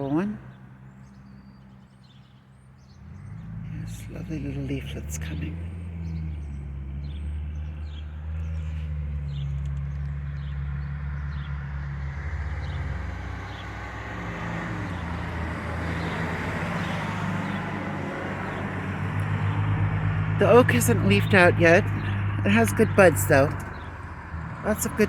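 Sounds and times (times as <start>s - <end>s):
low rumble of road vehicles: 0.0s - 25.0s.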